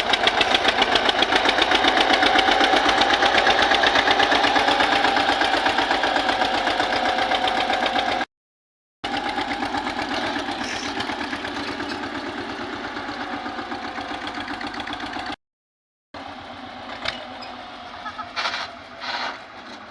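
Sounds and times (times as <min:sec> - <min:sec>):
tractor diesel engine running: 0:00.0 - 0:08.3, 0:09.0 - 0:15.4, 0:16.2 - 0:19.9.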